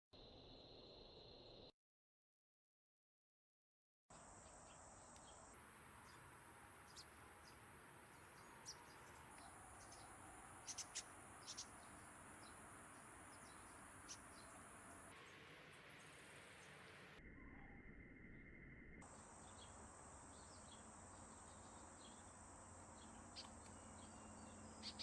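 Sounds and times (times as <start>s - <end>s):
bird chirps: 4.5s - 25.0s.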